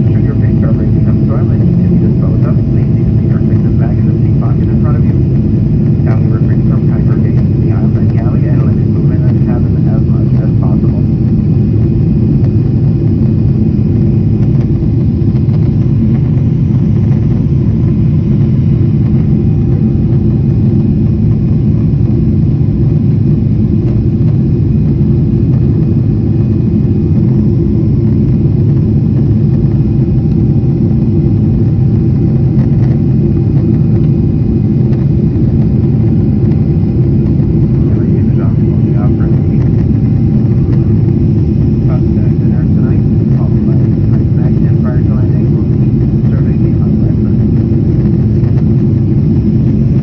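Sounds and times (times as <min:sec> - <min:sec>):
loud low rumble: 0:00.0 - 0:22.2, 0:30.8 - 0:50.0.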